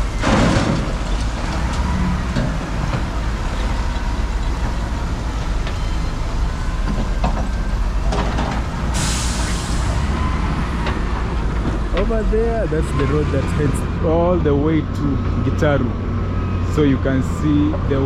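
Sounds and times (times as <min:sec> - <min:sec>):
heavy road traffic: 0:00.0 - 0:18.0.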